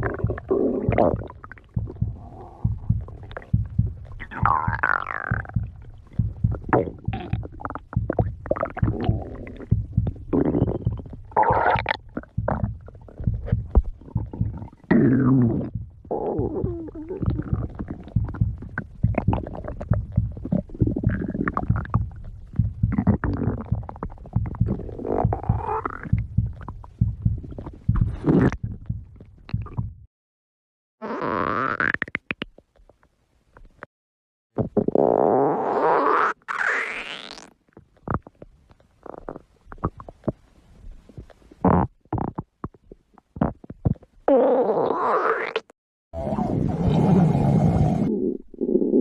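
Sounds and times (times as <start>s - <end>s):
stomach growling and gurgling: 0.0s - 30.1s, 34.6s - 49.0s.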